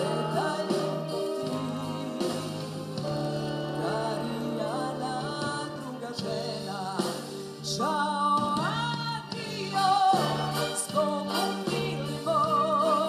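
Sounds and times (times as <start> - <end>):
band accompaniment: 0.0 - 13.0
woman singing: 0.0 - 13.0.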